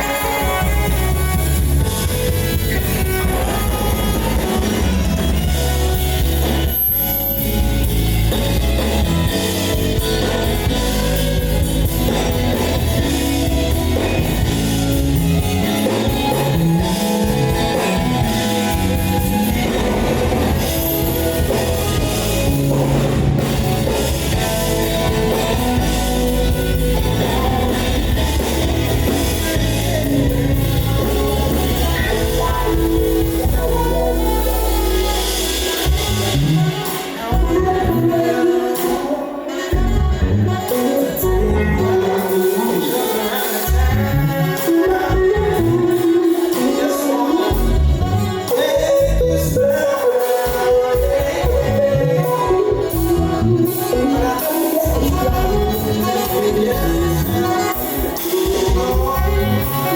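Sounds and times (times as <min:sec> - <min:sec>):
live band playing r and b: 0:00.0 - 0:59.9.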